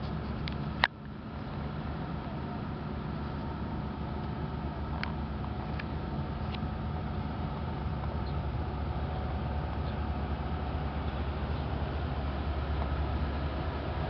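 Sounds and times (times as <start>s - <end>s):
boat diesel engine droning: 0.0s - 14.0s.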